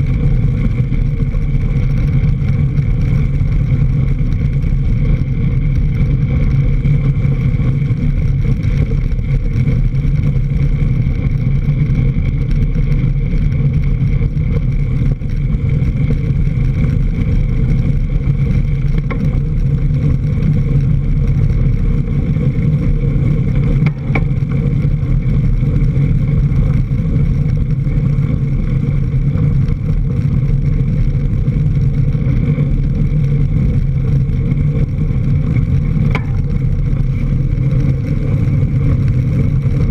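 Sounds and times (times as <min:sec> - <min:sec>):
wind and tyre rumble: 0:00.0 - 0:39.9.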